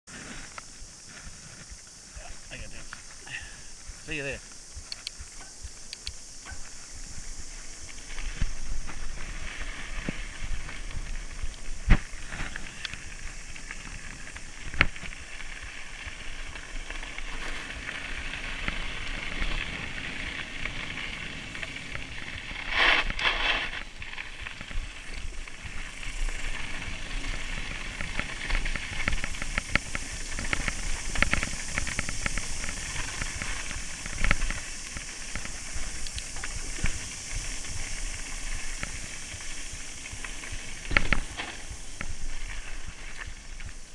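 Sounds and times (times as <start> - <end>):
tyres rolling on gravel: 0.1 - 43.9
wind on camera: 0.3 - 43.9.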